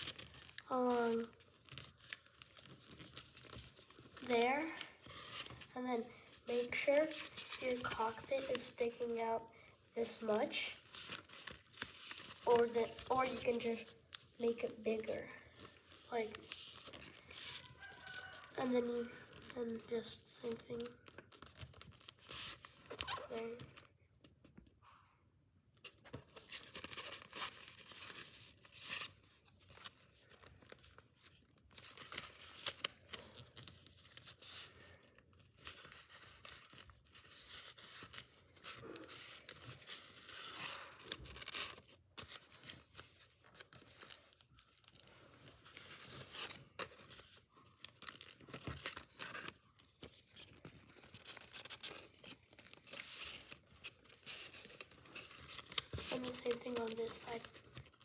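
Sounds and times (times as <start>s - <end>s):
paper rustling and crinkling: 0.0s - 25.0s, 25.8s - 58.0s.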